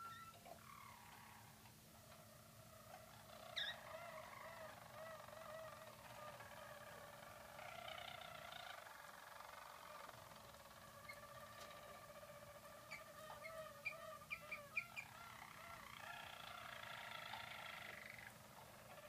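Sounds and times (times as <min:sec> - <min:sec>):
canaries singing trills: 0:00.0 - 0:19.0.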